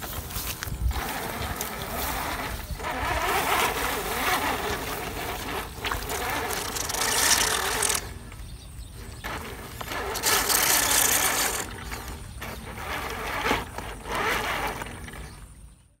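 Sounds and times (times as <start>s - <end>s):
grass rustling hiss: 0.0s - 15.4s
toy truck motor whirring: 0.7s - 8.4s, 9.1s - 15.6s.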